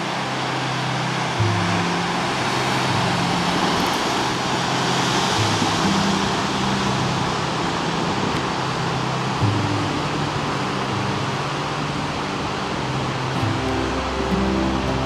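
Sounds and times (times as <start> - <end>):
slow low-note background music: 0.0 - 15.0
steady rushing noise: 0.0 - 15.0.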